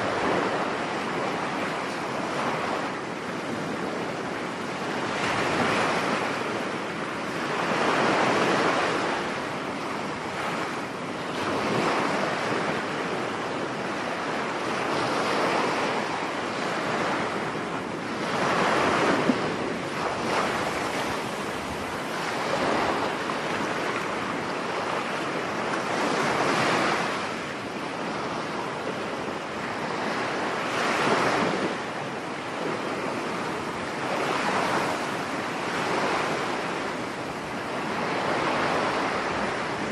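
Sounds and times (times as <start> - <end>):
waves breaking on beach: 0.0 - 39.9
wind: 0.0 - 39.9.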